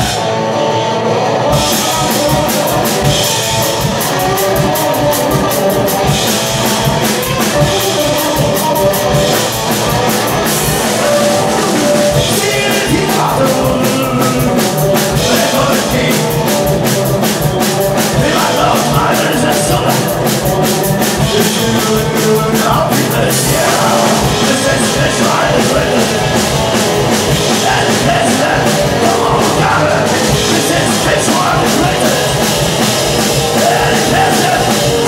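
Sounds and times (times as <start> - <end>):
fast drum kit beat: 0.0 - 0.4, 1.4 - 35.0
electric guitar: 0.0 - 35.0
upright bass: 1.1 - 35.0.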